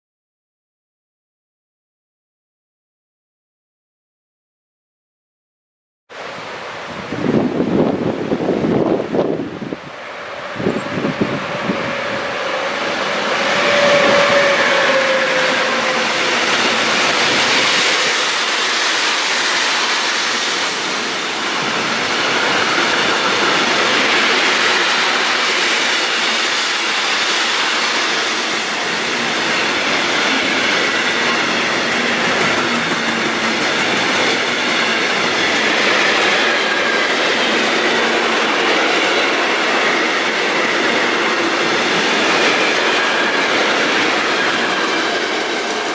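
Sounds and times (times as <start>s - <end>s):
electric locomotive passing: 6.2s - 45.9s
train wheels rolling on rails: 6.2s - 45.9s.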